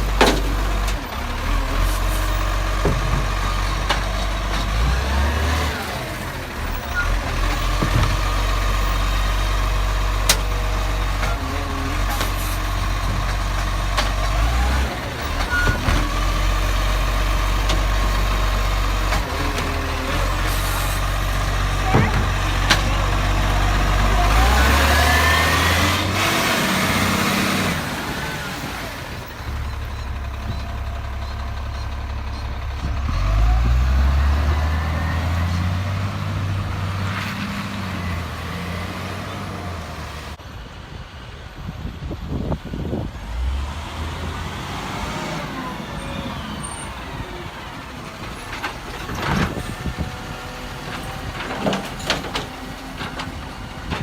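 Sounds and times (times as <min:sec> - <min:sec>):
garbage truck engine revving: 0:00.0 - 0:40.4, 0:42.6 - 0:54.0.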